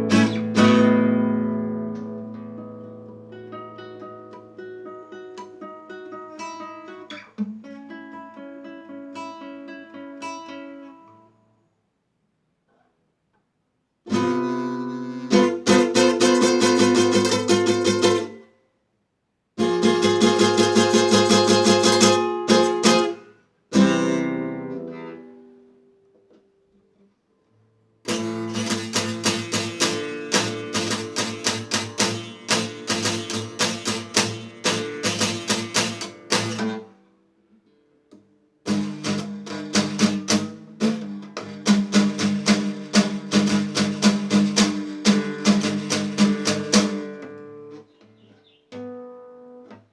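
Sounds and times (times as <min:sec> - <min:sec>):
guitar strumming chords: 0:00.0 - 0:11.2, 0:14.1 - 0:18.5, 0:19.6 - 0:25.9, 0:28.1 - 0:37.8, 0:38.6 - 0:49.8.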